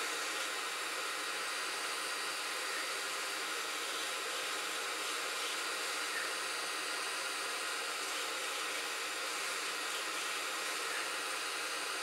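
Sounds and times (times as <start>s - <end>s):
hot air gun hissing: 0.0s - 12.0s.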